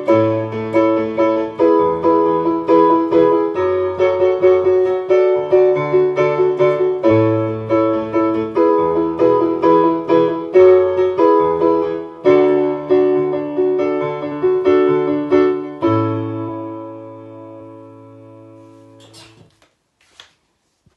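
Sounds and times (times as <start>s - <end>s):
digital piano chords: 0.0s - 19.4s.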